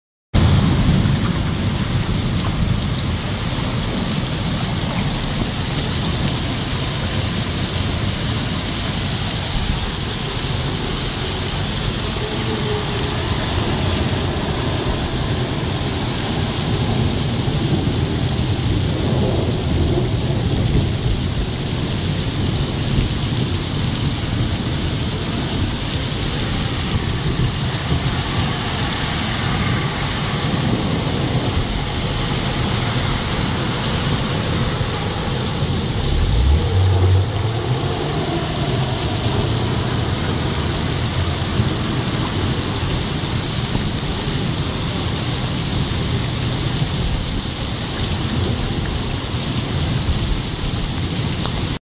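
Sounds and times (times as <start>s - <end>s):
low thunder rumble: 0.4s - 51.7s
heavy rain on water: 0.4s - 51.8s.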